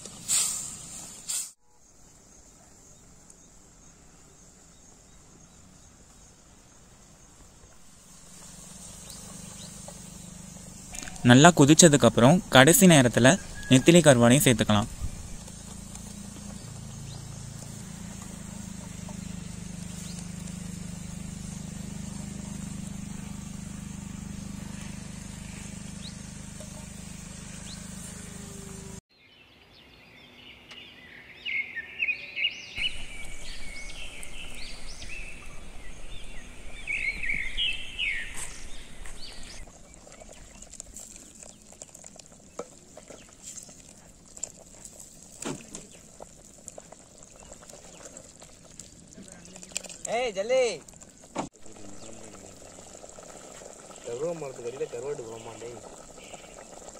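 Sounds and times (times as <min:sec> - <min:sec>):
birds chirping: 0:01.8 - 0:44.0, 0:45.6 - 0:56.9.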